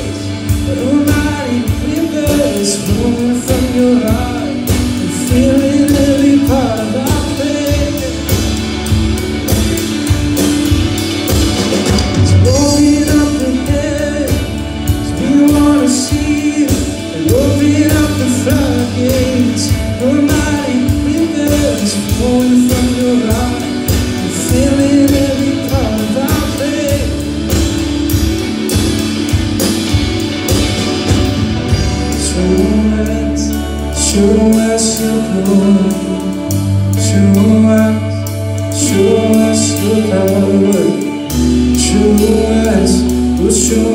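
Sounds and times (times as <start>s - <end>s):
drum kit: 0.0s - 43.9s
electric bass: 0.0s - 43.9s
electric guitar lead: 0.0s - 43.9s.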